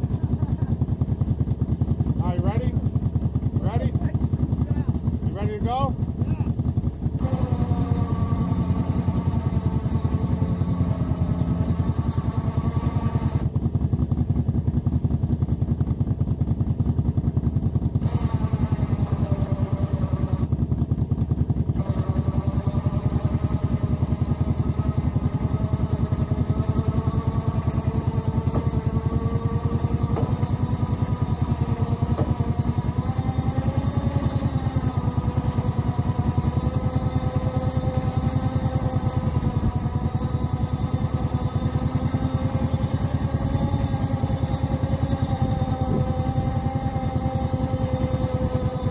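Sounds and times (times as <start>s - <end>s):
atv engine running under load: 0.0s - 48.9s.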